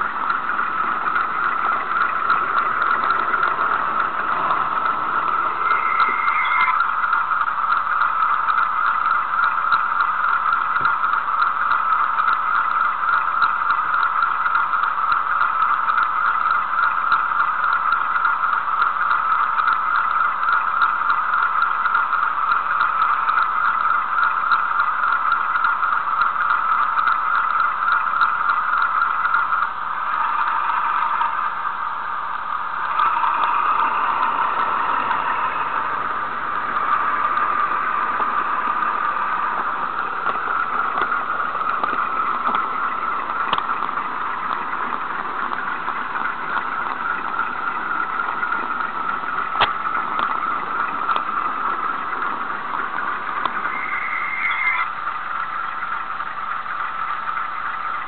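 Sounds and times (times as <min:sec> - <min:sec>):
diesel engine sound from small loudspeaker: 0:00.0 - 0:58.0.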